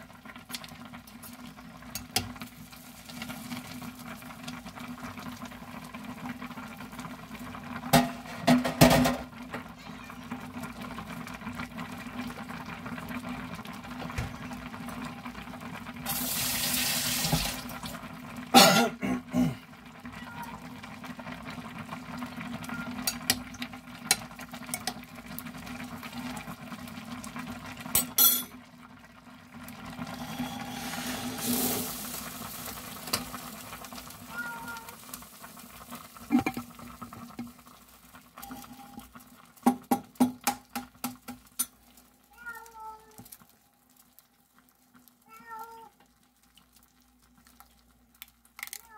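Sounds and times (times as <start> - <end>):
broth bubbling in a saucepan: 0.0 - 48.9.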